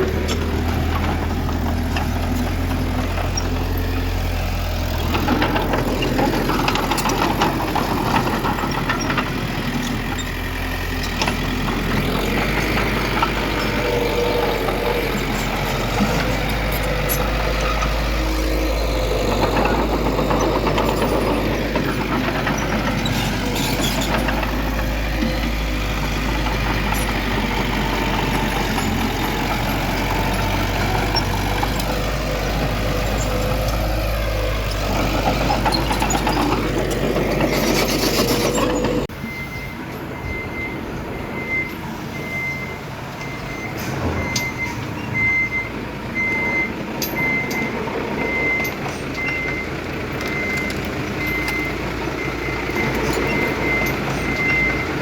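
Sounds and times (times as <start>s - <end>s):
earthmoving machinery diesel engines: 0.0s - 55.0s.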